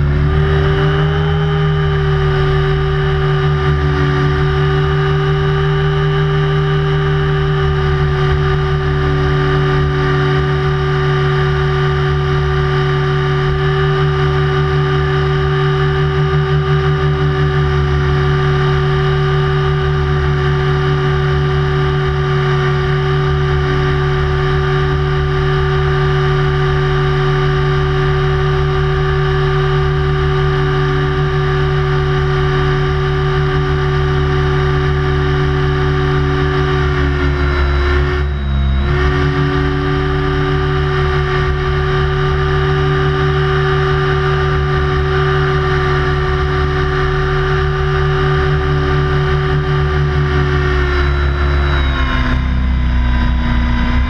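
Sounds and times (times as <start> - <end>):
model helicopter motor whine: 0.0 - 54.0.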